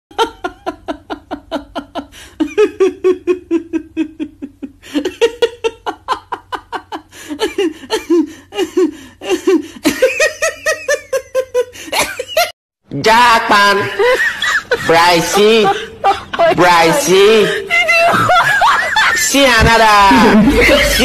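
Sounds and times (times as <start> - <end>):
person laughing hard: 0.1 - 12.5, 13.9 - 21.0.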